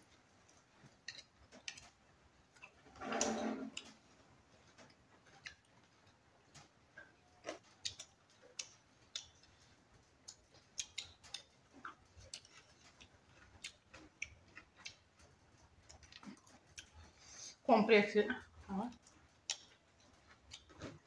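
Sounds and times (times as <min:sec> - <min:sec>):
chewing mouths: 0:00.5 - 0:17.6, 0:18.4 - 0:21.0.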